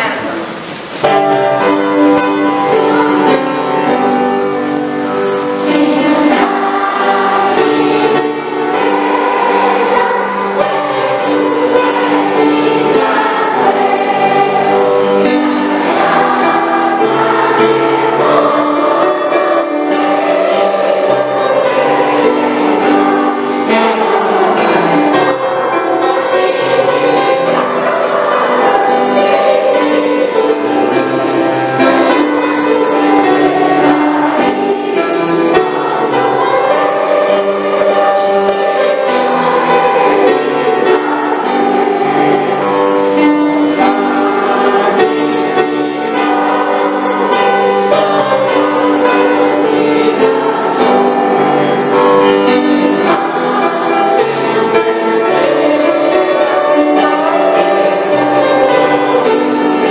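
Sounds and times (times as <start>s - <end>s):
flowing melodic music: 0.0s - 59.9s.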